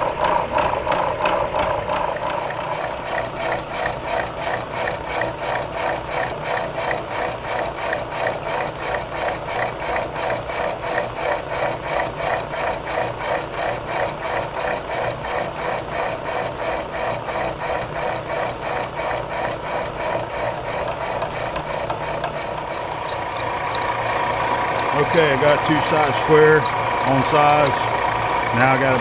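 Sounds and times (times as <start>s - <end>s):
milling machine cutting metal: 0.0s - 29.0s.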